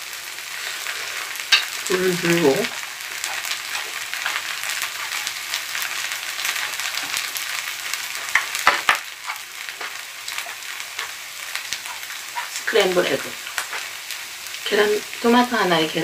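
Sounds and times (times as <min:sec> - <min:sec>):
rice sizzling in a hot pan: 0:00.0 - 0:16.0.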